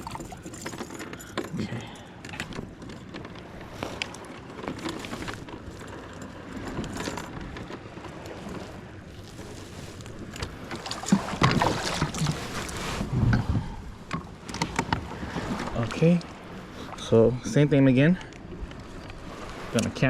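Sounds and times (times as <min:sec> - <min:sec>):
gear knocking and rustling in kayak: 0:00.0 - 0:20.0.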